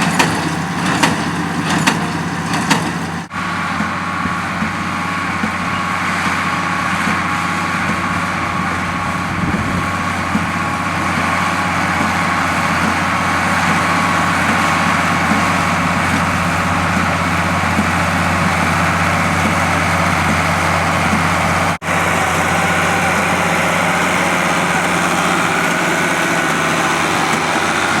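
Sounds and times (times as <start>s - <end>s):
farm machinery engine running: 0.0s - 28.0s.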